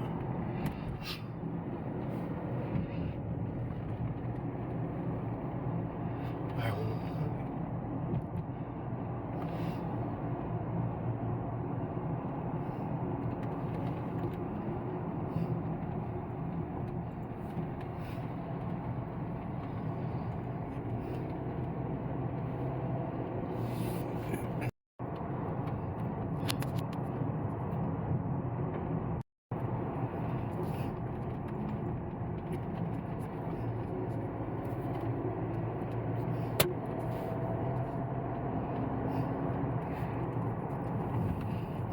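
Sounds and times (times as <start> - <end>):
car engine and tyre rumble: 0.0 - 41.9.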